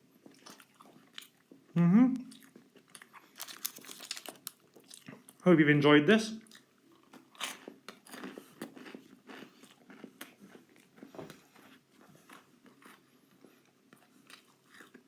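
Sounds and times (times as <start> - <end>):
person chewing crunchy food: 0.1 - 5.4, 6.4 - 15.0.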